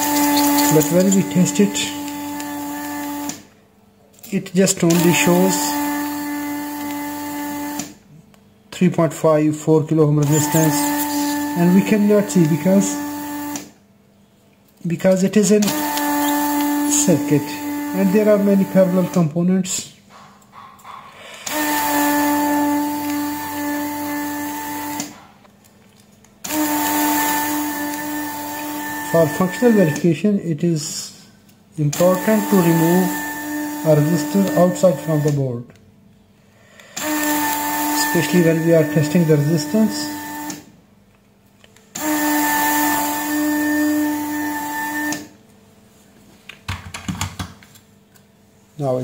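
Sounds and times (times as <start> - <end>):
desoldering pump humming: 0.0 - 49.0.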